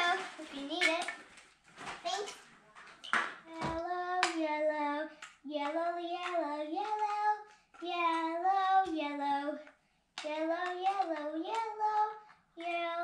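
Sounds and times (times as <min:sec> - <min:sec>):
child singing: 0:00.0 - 0:01.2, 0:03.4 - 0:13.0.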